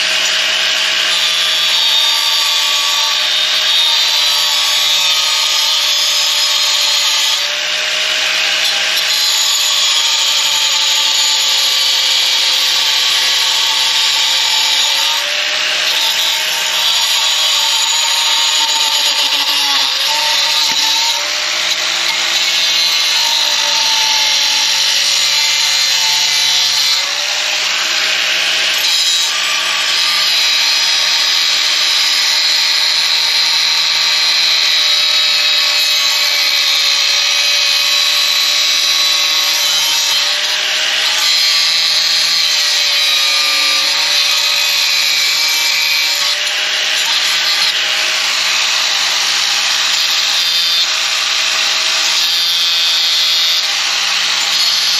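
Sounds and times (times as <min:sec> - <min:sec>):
power saw cutting metal pipe: 0:00.0 - 0:54.9.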